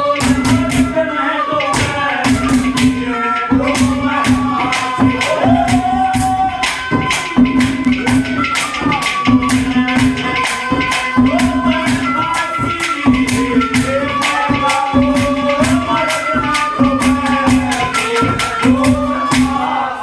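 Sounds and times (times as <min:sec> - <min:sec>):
held folk melody line: 0:00.0 - 0:20.0
jingling percussion: 0:00.0 - 0:20.0.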